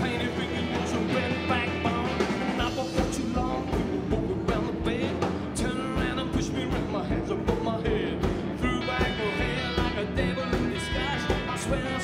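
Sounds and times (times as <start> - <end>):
drum kit beat: 0.0 - 12.0
electric guitar: 0.0 - 12.0.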